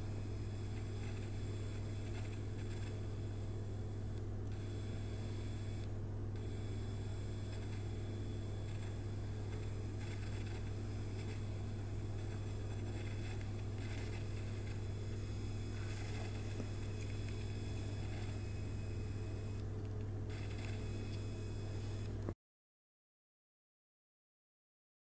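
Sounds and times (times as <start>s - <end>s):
low hum with faint hiss: 0.0s - 22.4s.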